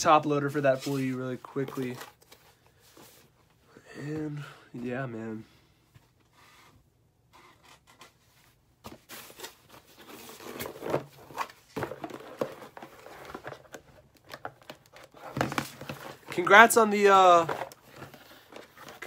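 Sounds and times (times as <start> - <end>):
rustling and rummaging: 0.0 - 3.6, 5.9 - 19.0.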